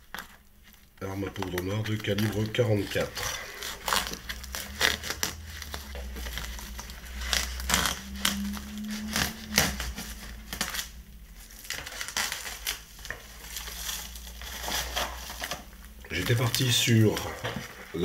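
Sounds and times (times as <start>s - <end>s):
plastic film crinkling: 0.0s - 18.0s.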